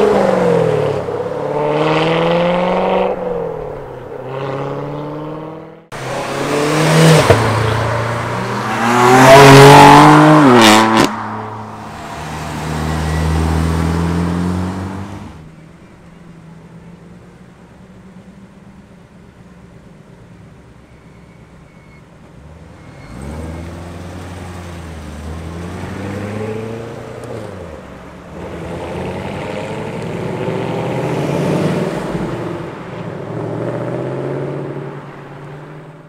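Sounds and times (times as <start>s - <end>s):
sports cars revving and accelerating: 0.0s - 15.5s, 22.4s - 36.0s.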